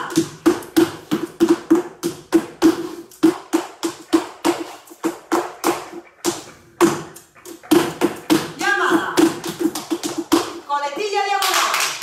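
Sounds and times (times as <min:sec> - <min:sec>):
dance shoes striking wooden floor: 0:00.0 - 0:11.4.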